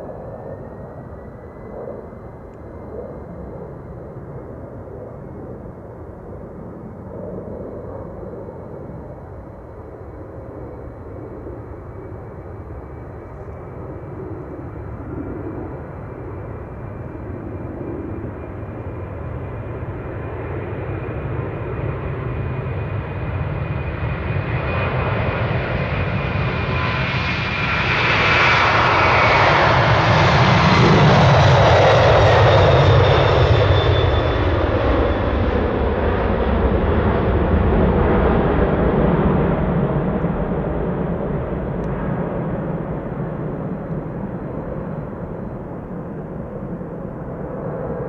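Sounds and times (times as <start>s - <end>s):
jet engines at takeoff: 0.0s - 48.0s.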